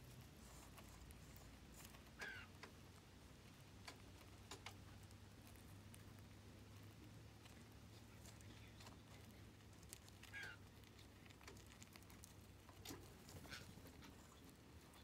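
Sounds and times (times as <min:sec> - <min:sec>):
low steady hum: 0:00.0 - 0:15.0
birdseed clicking and cracking: 0:01.0 - 0:15.0.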